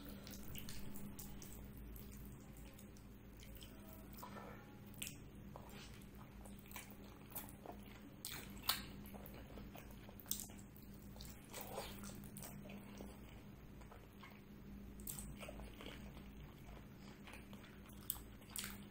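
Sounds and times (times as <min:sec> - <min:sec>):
faint steady hum: 0:00.0 - 0:18.9
wet chewing and smacking: 0:00.0 - 0:18.9.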